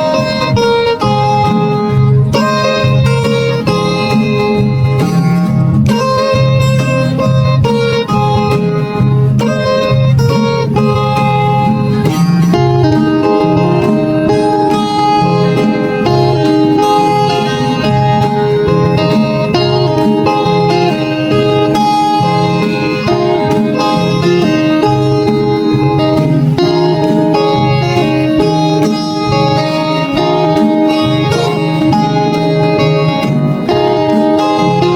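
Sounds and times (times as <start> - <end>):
plucked guitar music: 0.0 - 34.9.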